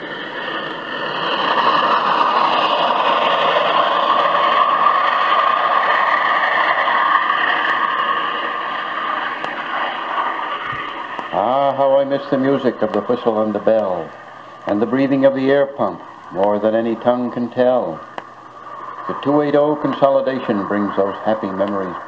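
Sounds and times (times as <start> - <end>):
steam train running: 0.0 - 22.0.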